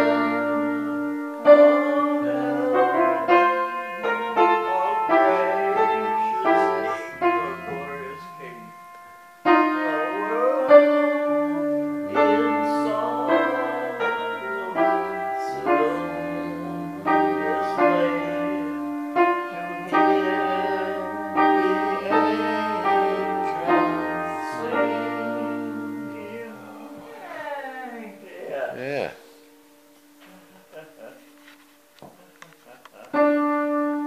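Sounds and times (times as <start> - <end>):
piano playing slow chords: 0.0 - 34.0.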